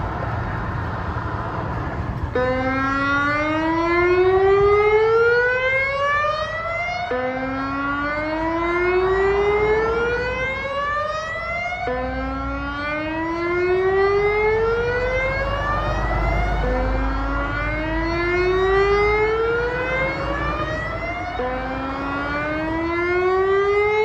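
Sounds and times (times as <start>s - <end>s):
electronic siren rising sweep: 1.7s - 24.0s.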